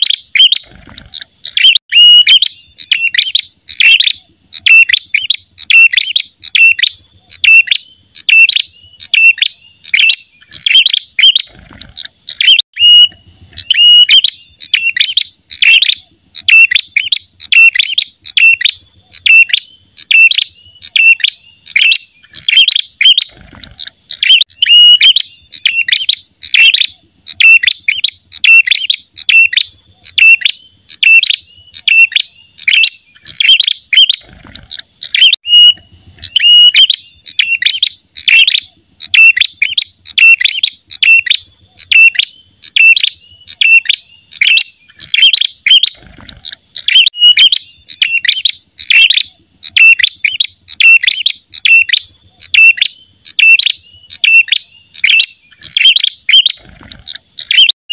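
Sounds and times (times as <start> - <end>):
bird sharp high chirping: 0.0 - 57.8.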